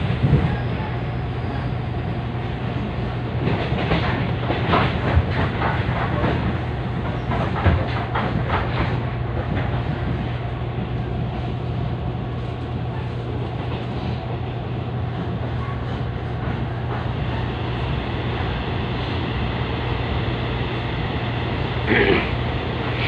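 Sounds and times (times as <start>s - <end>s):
electric train running rumble: 0.0s - 23.0s.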